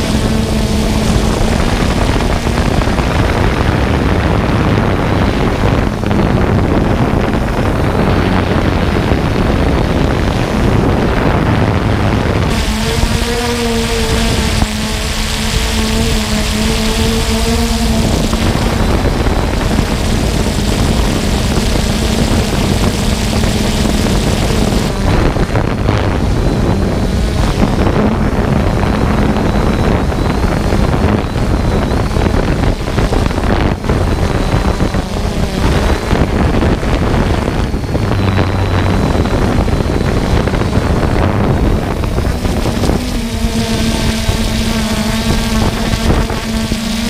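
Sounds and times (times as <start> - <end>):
drone motors whining: 0.0 - 47.0
wind on microphone: 0.0 - 47.0.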